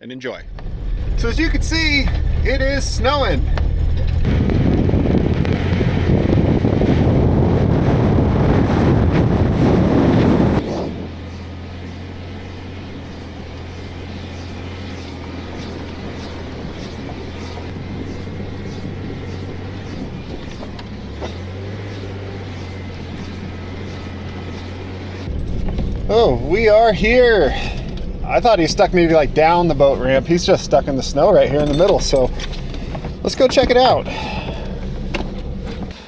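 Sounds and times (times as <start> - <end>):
wind and road noise rumble: 0.3 - 36.0
car engine drone: 0.4 - 36.0.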